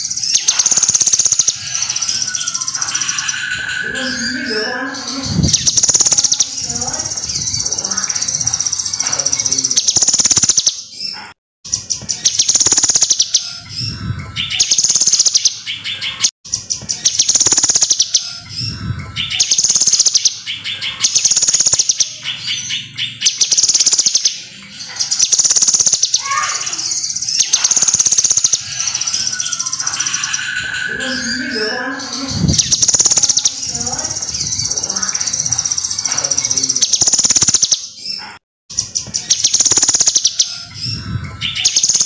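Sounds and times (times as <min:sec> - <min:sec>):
caged songbird trilling: 0:00.0 - 0:11.1, 0:12.1 - 0:16.3, 0:16.9 - 0:38.2, 0:39.1 - 0:42.0.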